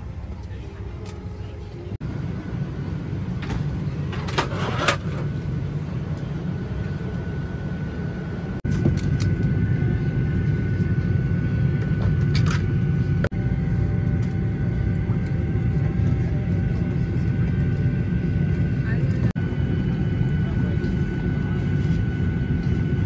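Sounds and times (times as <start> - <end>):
air conditioning hum: 0.0 - 23.0
faint steady whine: 0.0 - 23.0.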